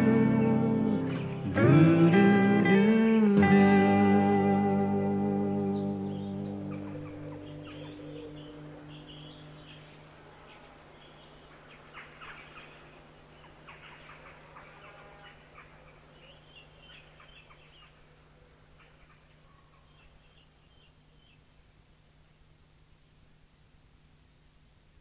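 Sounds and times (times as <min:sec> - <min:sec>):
birds chattering: 0:00.0 - 0:21.5
low steady hum: 0:00.0 - 0:25.0.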